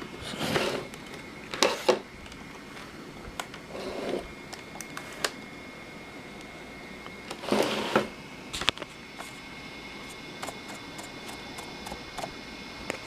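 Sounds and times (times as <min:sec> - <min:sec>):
faint hiss with high tone: 0:00.0 - 0:13.0.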